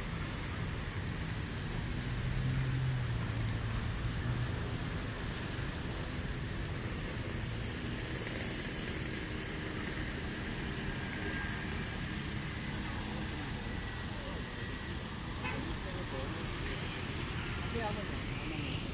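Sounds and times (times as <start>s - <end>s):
fountain water splashing: 0.0s - 18.9s
street traffic rumble: 0.0s - 18.9s.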